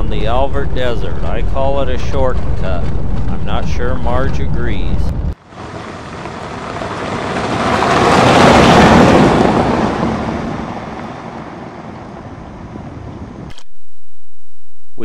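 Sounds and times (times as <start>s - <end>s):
vehicle driving past: 0.0s - 13.4s.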